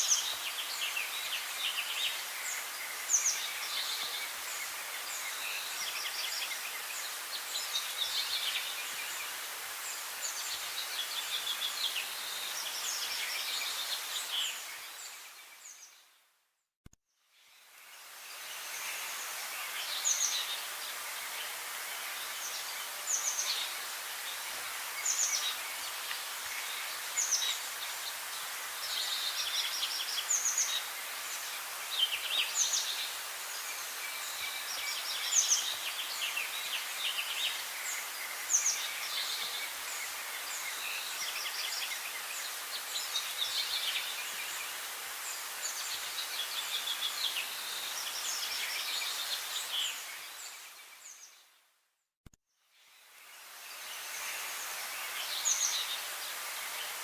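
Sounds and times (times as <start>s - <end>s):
steady high hiss: 0.0s - 15.9s, 17.3s - 51.2s, 52.8s - 57.0s
songbirds singing: 0.0s - 16.2s, 17.2s - 51.5s, 52.9s - 57.0s.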